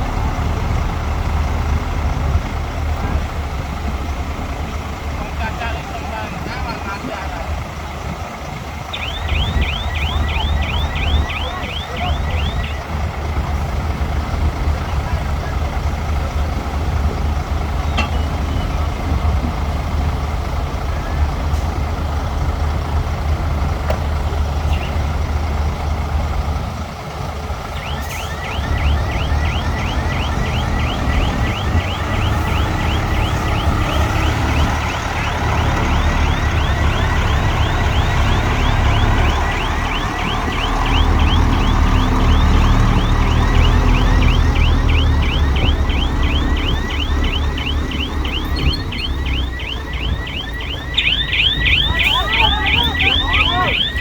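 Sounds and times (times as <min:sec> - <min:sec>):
diesel machinery rumbling: 0:00.0 - 0:54.0.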